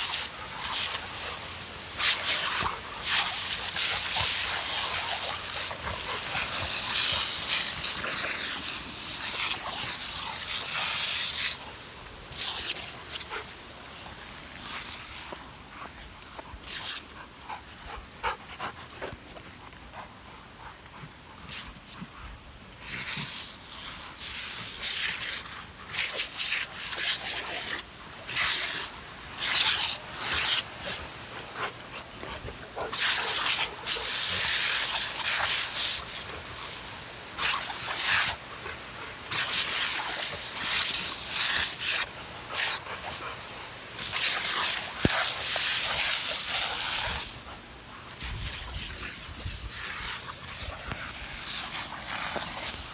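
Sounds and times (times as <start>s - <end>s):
water spraying and splashing: 0.0s - 20.1s, 21.4s - 22.0s, 22.7s - 52.9s.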